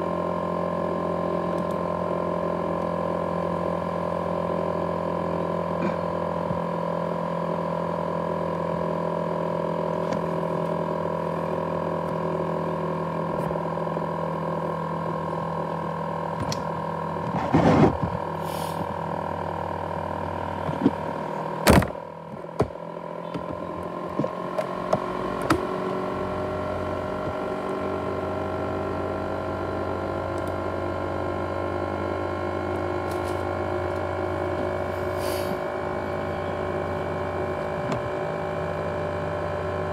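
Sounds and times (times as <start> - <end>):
laptop cooling fan whine: 0.0 - 39.9.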